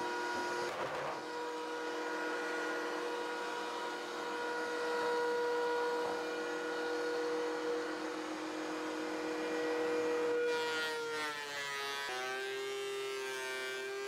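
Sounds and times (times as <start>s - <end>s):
thickness planer whine: 0.0s - 14.0s.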